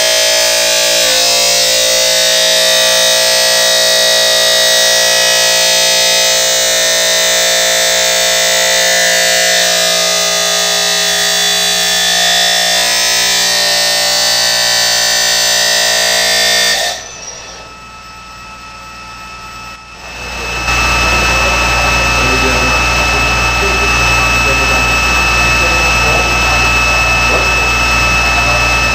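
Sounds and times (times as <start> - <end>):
cut-off disc screeching on metal: 0.0 - 28.9.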